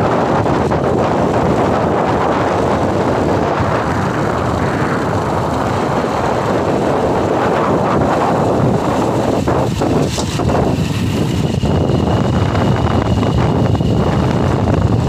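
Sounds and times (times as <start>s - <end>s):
motorcycle engine cruising: 0.0s - 15.0s
wind rushing over microphone: 0.0s - 15.0s.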